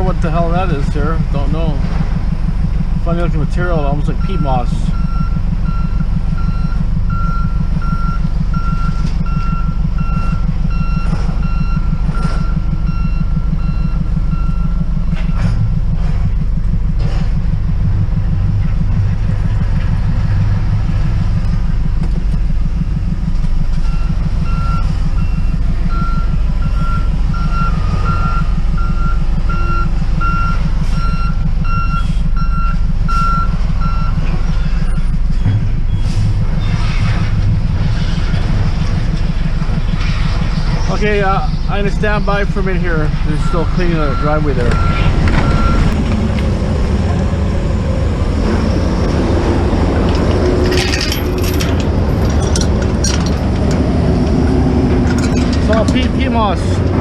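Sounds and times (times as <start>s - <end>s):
reversing alarm beeping: 0.0s - 56.9s
truck engine idling: 0.0s - 57.0s.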